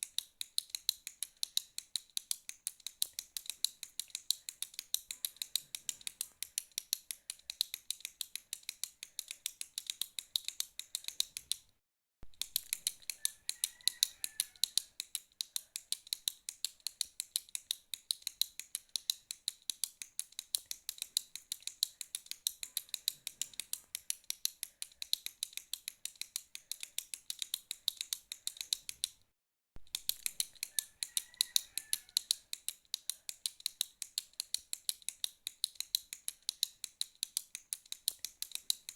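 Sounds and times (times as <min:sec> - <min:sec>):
click pen clicking: 0:00.0 - 0:11.7, 0:12.3 - 0:29.2, 0:29.8 - 0:38.9.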